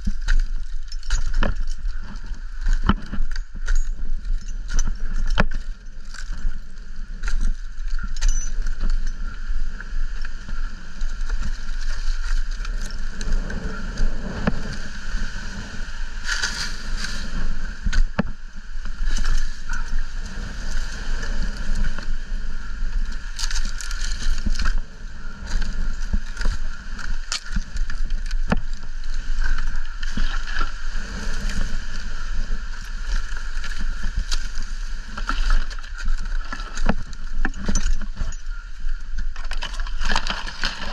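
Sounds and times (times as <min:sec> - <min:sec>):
dry palm fronds rustling: 0:00.0 - 0:40.9
wind buffeting microphone: 0:00.0 - 0:40.9.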